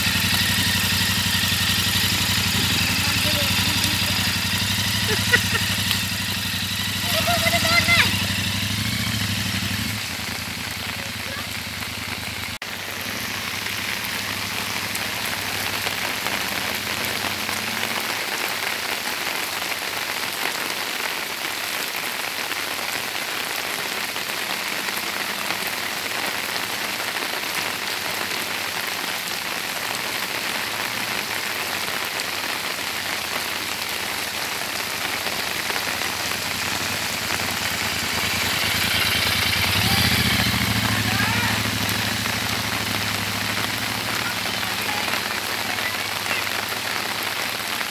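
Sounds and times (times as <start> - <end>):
motorcycle engine: 0.0 - 20.3, 23.0 - 47.9
heavy rain on wet road: 0.0 - 47.9.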